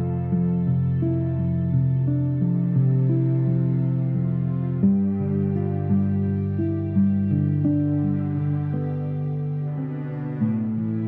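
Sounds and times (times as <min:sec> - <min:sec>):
calm instrumental music: 0:00.0 - 0:11.0.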